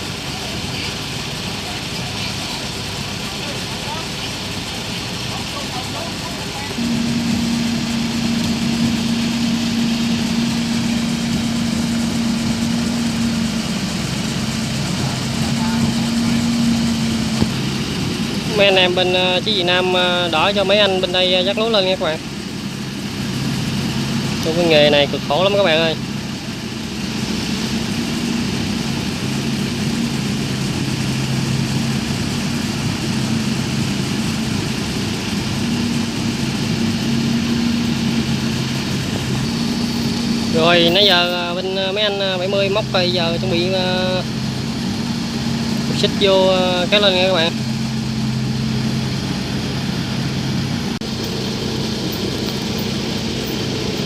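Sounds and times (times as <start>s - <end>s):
combine harvester engine running: 0.0s - 54.0s
even hum: 0.0s - 54.0s.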